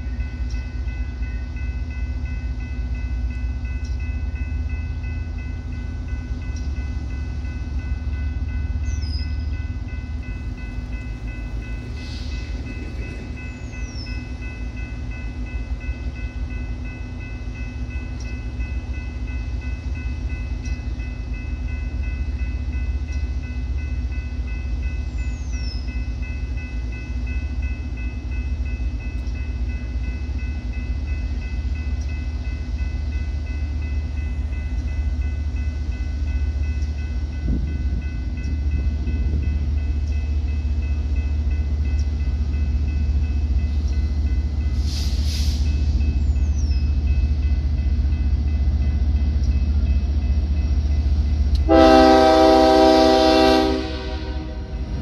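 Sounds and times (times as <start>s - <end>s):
locomotive engine rumble: 0.0s - 55.0s.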